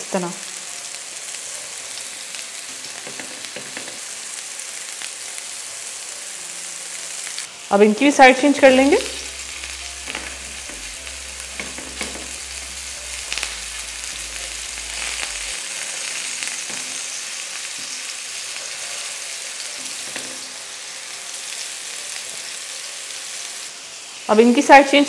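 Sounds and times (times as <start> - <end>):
kebabs sizzling on griddle: 0.0 - 25.0.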